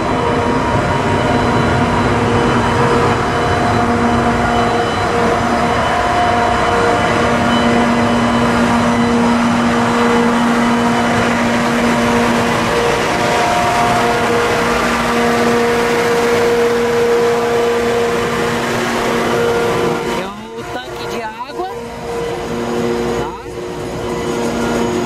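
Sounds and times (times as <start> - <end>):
diesel engines humming: 0.0 - 25.0
train rolling past: 0.0 - 25.0.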